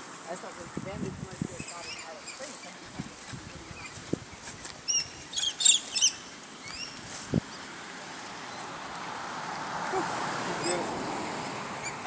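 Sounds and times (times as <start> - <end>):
birds chirping: 1.4 - 12.0.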